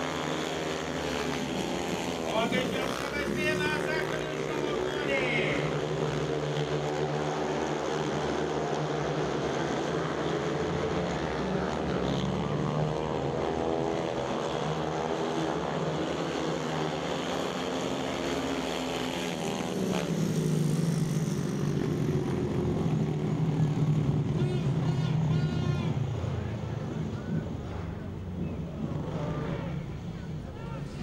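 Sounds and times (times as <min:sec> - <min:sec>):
motorcycle engines at full throttle: 0:00.0 - 0:31.0.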